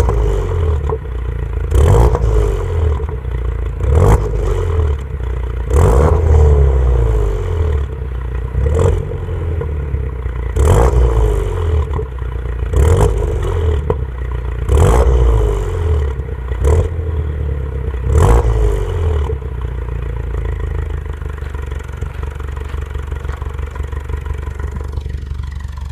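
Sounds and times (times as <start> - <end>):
car engine revving and idling: 0.0 - 25.9
exhaust cracks: 0.0 - 25.9.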